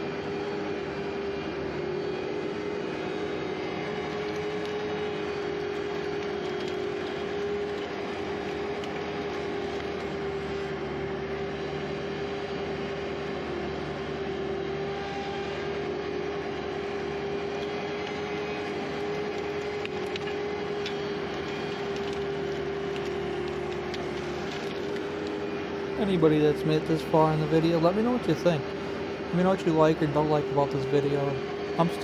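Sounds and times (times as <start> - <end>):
constant whine: 0.0 - 32.0
skid steer engine running: 0.0 - 32.0.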